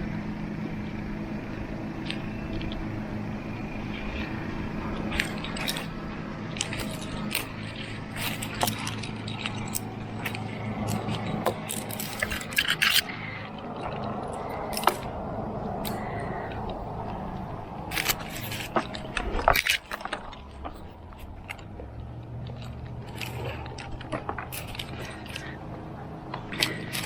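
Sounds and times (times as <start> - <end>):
steady low hum: 0.0 - 27.0
climbing gear scraping tree bark: 3.5 - 27.0.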